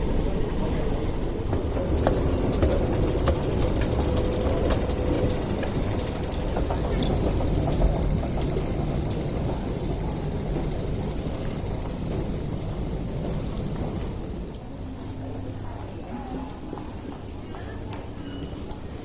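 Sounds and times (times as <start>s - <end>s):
passengers' footsteps: 0.1s - 19.0s.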